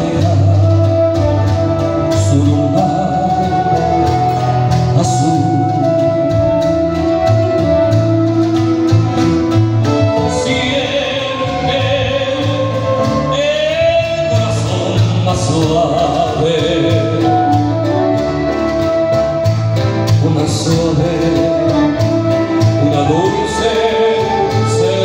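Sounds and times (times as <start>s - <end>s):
bass: 0.0s - 25.0s
violins and flute melody: 0.0s - 25.0s.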